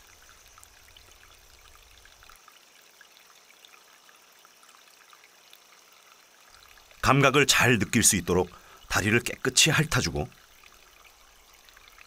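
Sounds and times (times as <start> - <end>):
faint trickling water: 0.0 - 12.0
small drips and ticks: 0.0 - 12.0.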